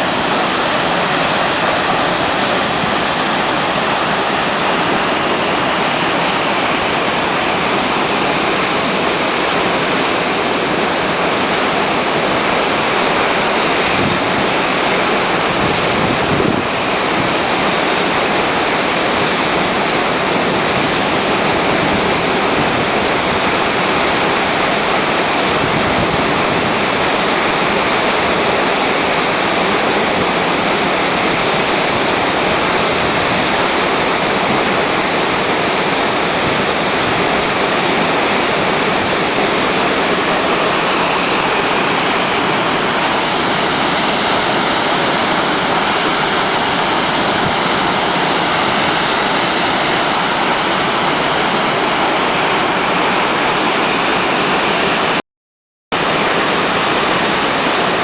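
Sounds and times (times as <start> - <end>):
waterfall rushing: 0.0 - 55.2, 56.0 - 58.0.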